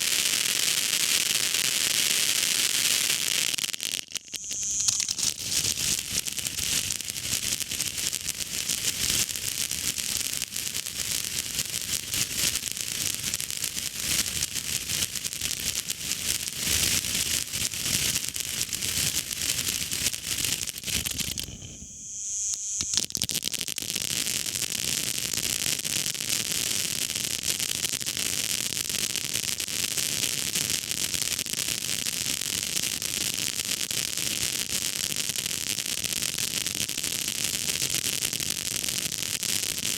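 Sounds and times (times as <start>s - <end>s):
firework hissing and crackling: 0.0s - 39.9s.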